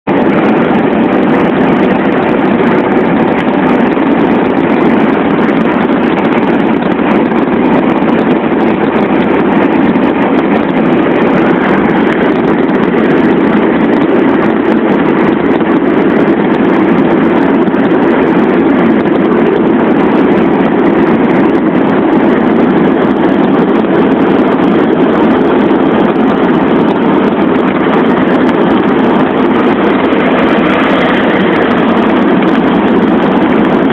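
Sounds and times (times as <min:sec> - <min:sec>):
car interior road noise: 0:00.1 - 0:33.9.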